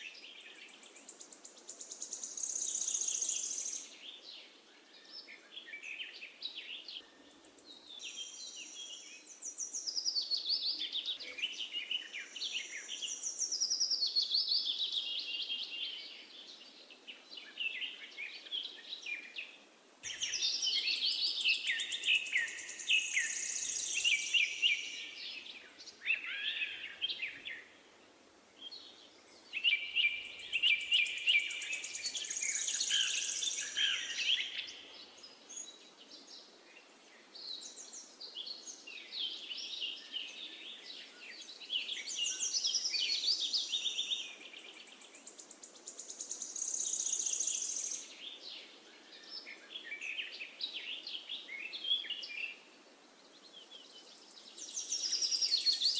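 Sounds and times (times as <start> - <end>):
birds chirping and twittering: 0.0 - 55.9
faint steady hiss: 0.0 - 55.9.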